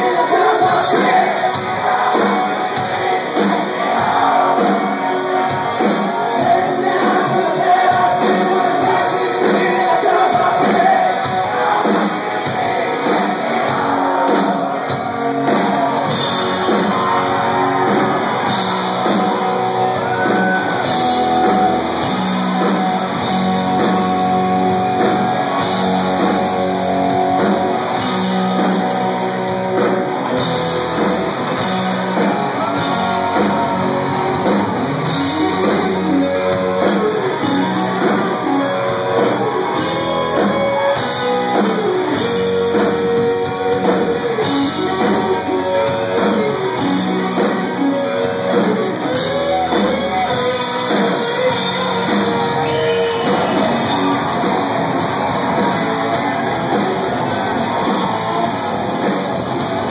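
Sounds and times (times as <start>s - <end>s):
electric guitar melody: 0.0s - 59.9s
live rock band playing: 0.0s - 59.9s.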